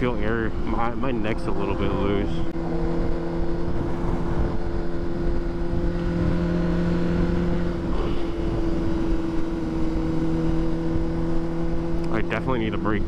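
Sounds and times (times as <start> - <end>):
wind rushing past microphone: 0.0 - 12.2
motorcycle engine cruising: 0.0 - 13.0.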